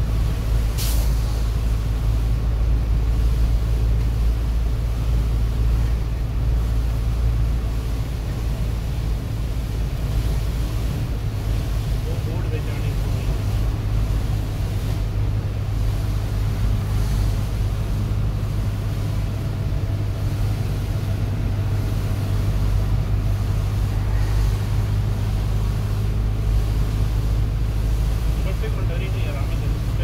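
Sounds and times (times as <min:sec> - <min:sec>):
vehicle engine and tyres droning: 0:00.0 - 0:30.0.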